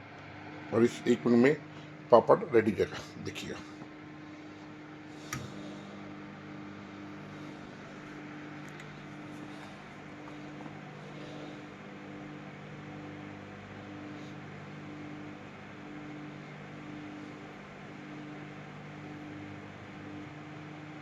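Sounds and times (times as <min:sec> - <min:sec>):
microwave oven hum: 0:00.0 - 0:21.0.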